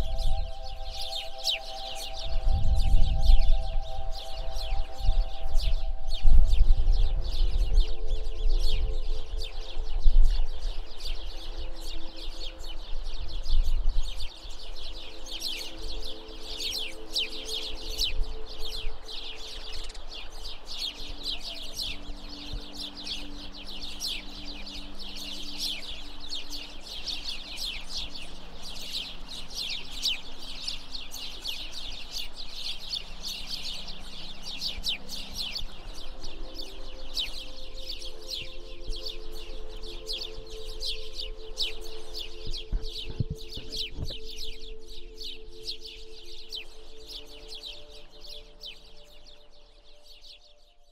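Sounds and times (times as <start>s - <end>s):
small birds chirping: 0.0s - 50.9s
soft low held tones: 0.0s - 50.9s.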